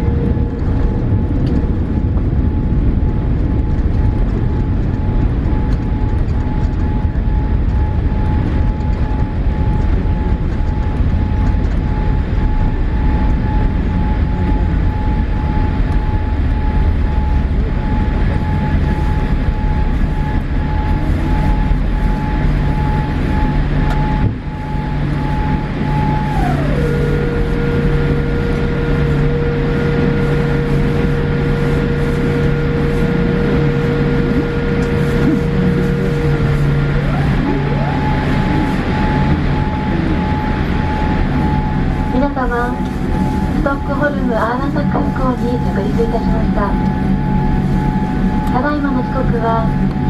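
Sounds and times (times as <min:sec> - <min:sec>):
low airplane cabin rumble: 0:00.0 - 0:50.0
thin steady whine: 0:00.0 - 0:50.0.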